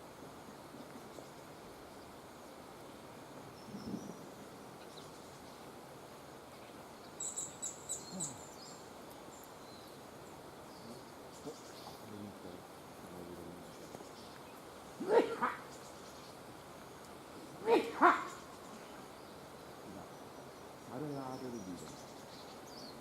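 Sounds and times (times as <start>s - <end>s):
faint steady hiss: 0.0s - 23.0s
bird chirping: 0.4s - 5.7s, 6.4s - 23.0s.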